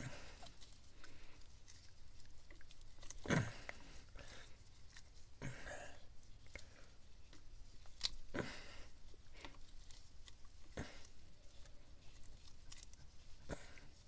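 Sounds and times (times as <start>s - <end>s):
rubbery squishing: 0.0s - 14.0s.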